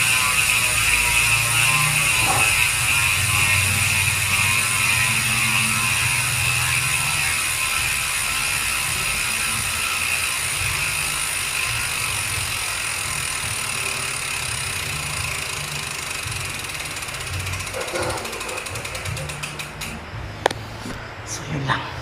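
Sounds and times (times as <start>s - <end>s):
bicycle hub ratcheting buzz: 0.0s - 20.1s.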